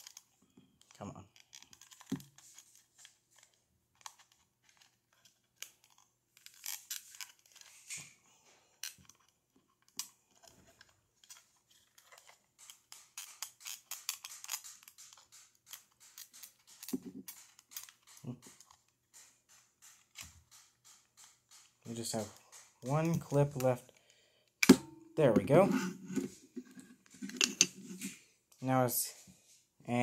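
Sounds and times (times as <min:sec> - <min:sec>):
plastic clicks and creaks: 0:00.0 - 0:24.0.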